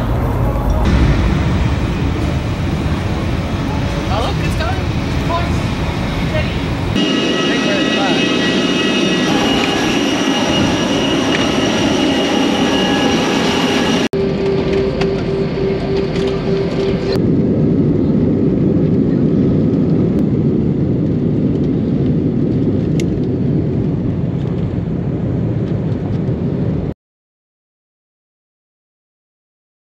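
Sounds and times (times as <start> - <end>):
jet engines whining: 0.0 - 26.8
airliner cabin rumble: 0.0 - 26.9.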